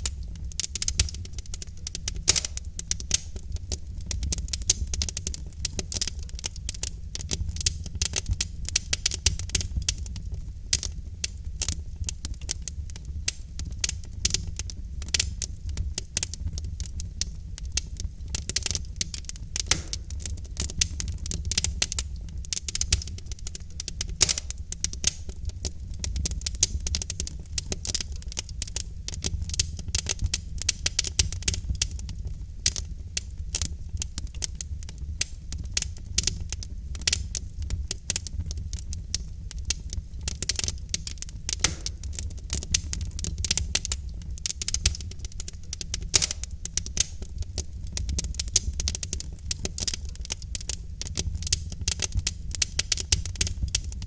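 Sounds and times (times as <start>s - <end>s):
sharp pops of burning logs: 0.0s - 10.1s, 13.2s - 32.0s, 32.6s - 53.9s
logs crackling in a fireplace: 0.0s - 54.0s
low rumble of fire: 0.0s - 54.0s.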